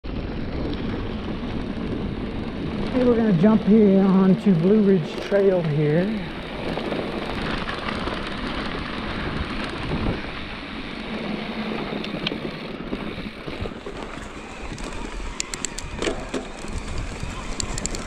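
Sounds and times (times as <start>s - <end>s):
bike tyres rolling on dirt: 0.0s - 18.0s
wind noise on microphone: 0.0s - 18.0s
sharp clicks and rattles: 0.2s - 18.0s.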